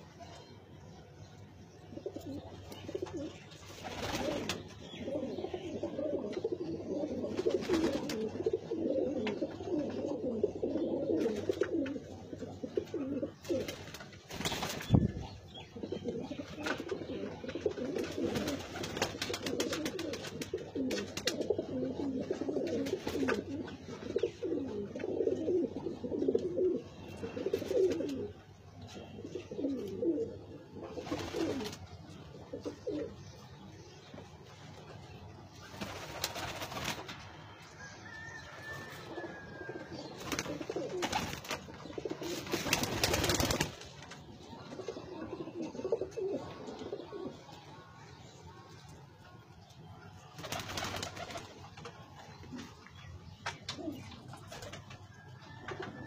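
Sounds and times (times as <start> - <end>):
pigeons cooing: 1.9 - 31.8, 32.4 - 33.4, 38.1 - 43.9, 44.5 - 47.6, 50.4 - 56.0.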